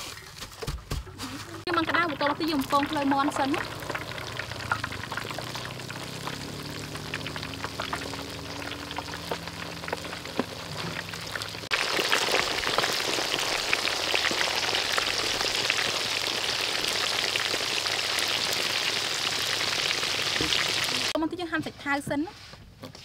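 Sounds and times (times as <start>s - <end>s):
chicken deep-frying in oil: 1.6s - 21.2s.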